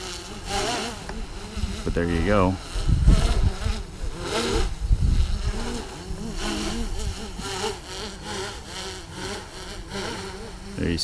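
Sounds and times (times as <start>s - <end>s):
quadcopter propellers buzzing: 0.0s - 11.0s.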